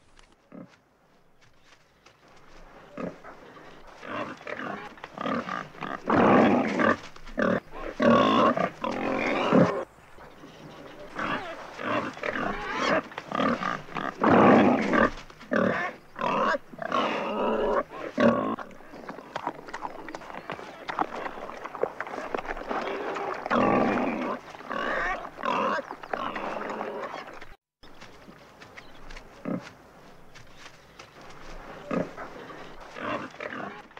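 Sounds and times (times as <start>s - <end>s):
wild boar grunting and squealing: 2.3s - 27.6s, 29.2s - 30.6s, 31.2s - 33.9s.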